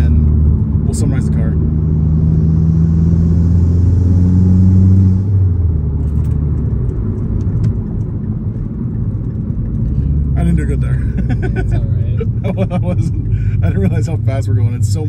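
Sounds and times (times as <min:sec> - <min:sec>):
car engine drone from cabin: 0:00.0 - 0:15.0
road and tyre rumble: 0:00.0 - 0:15.0.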